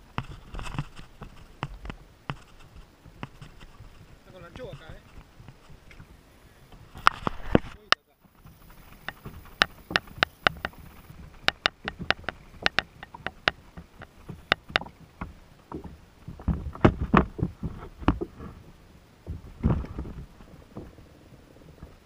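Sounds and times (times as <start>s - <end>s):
knocks and thumps against kayak: 0.0s - 22.0s.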